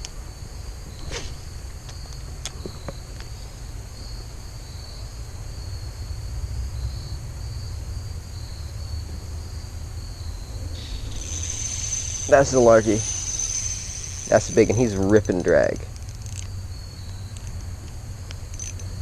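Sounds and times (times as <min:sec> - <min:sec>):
crickets chirping: 0:00.0 - 0:19.0
low steady rumble: 0:00.0 - 0:19.0.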